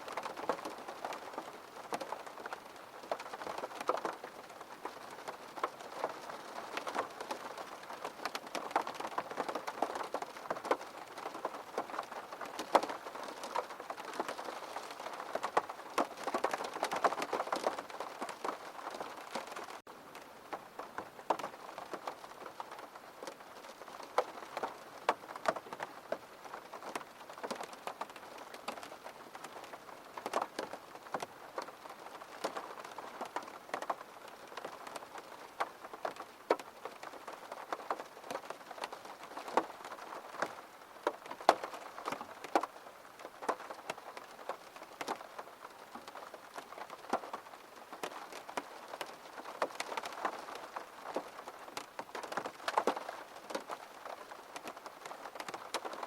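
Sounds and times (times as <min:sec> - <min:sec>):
gentle rain falling: 0:00.0 - 0:56.0
raindrops tapping on a surface: 0:00.1 - 0:56.0.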